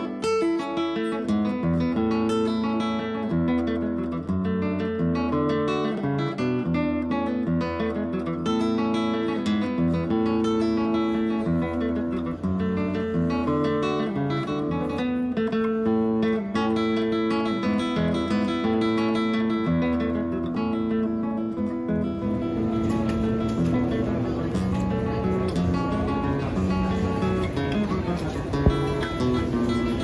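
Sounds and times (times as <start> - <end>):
acoustic guitar plucking: 0.0 - 30.0.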